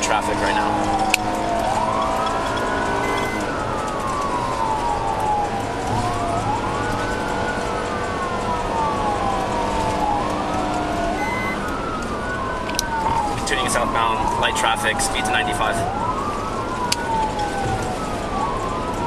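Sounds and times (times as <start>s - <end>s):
car engine and road noise: 0.0s - 19.0s
police siren wailing: 0.0s - 19.0s.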